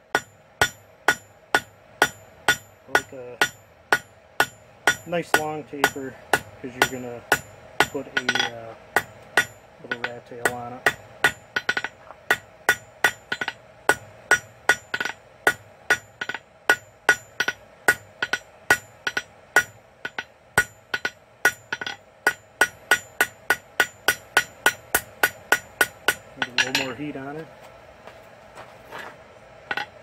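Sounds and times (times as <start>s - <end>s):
hammer striking metal on anvil: 0.1s - 27.2s, 29.6s - 30.0s.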